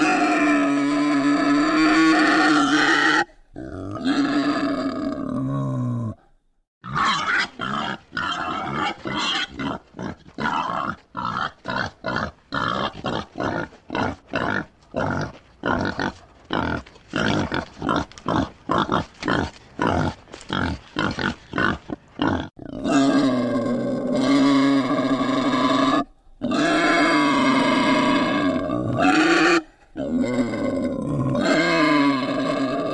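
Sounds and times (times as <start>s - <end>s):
wild boar grunting: 0.0s - 32.9s.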